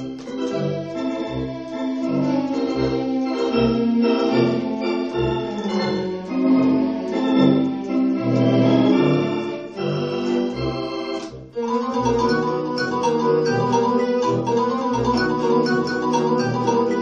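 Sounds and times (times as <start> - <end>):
electronic organ playing chords: 0.0 - 17.0.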